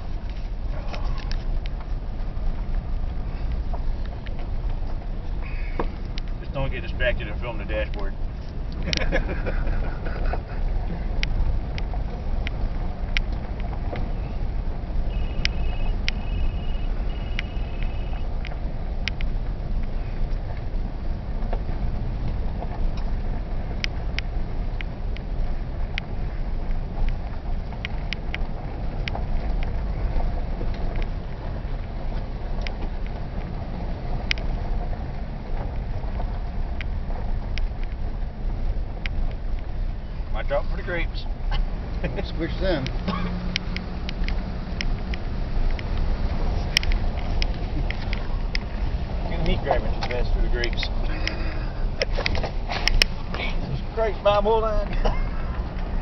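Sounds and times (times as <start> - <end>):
vehicle engine and tyres rumbling: 0.0 - 56.0.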